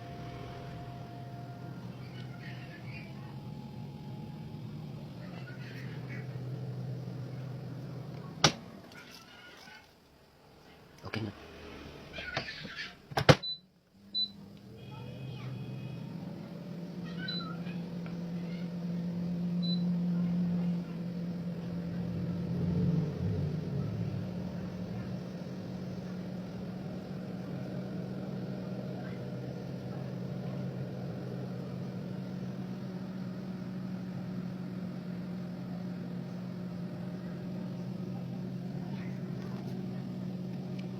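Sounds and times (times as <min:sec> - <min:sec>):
air fryer fan humming: 0:00.0 - 0:11.3, 0:12.2 - 0:40.9.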